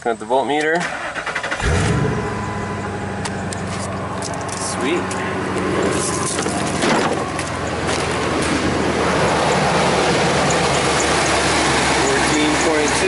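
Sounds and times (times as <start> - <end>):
pickup engine idling: 1.0 - 13.0.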